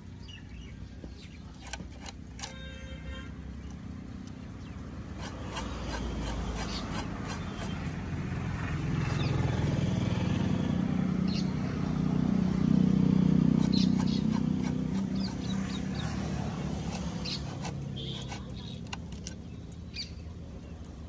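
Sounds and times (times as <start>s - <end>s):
low engine hum: 3.4s - 21.0s.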